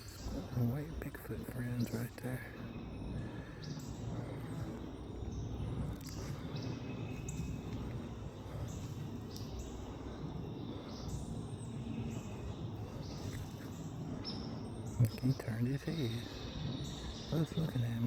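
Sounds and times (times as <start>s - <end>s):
bird chirps: 0.0s - 18.0s
steady low rumble: 0.0s - 18.0s.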